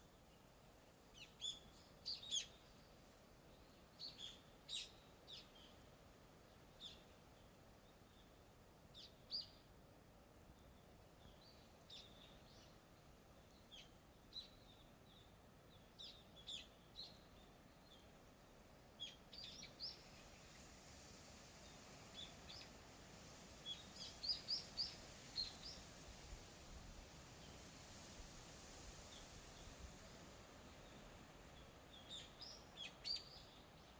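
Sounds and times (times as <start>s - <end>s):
faint steady hiss: 0.0s - 33.9s.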